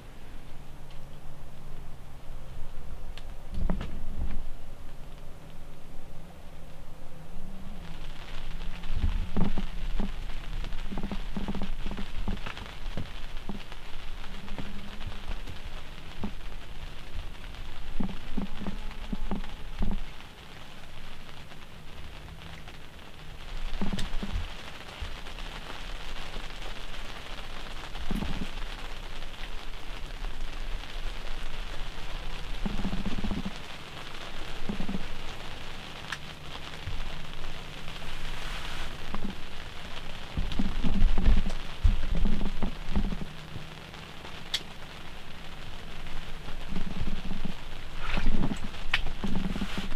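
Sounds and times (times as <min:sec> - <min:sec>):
rain pattering: 0:00.0 - 0:49.9.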